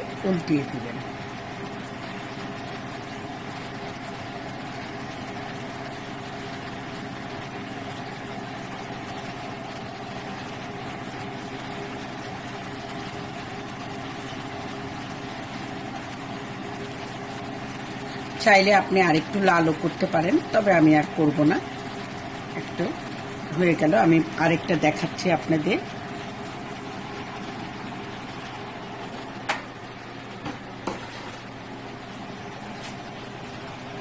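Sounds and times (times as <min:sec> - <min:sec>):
bread deep-frying in oil: 0:00.0 - 0:34.0.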